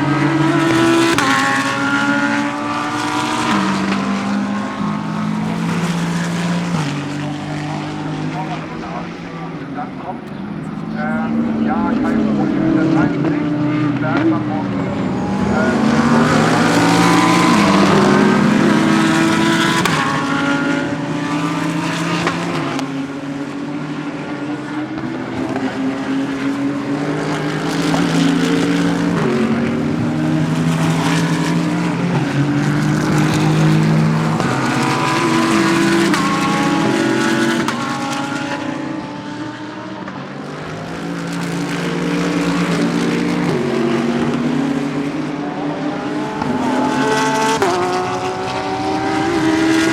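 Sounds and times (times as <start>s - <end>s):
race car engines passing: 0.0s - 49.9s.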